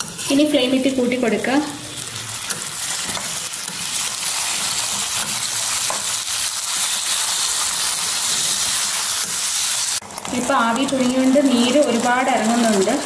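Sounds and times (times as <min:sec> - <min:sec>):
steel spoon stirring in pan: 0:00.0 - 0:00.4, 0:02.3 - 0:13.0
food sizzling in hot oil: 0:00.0 - 0:13.0.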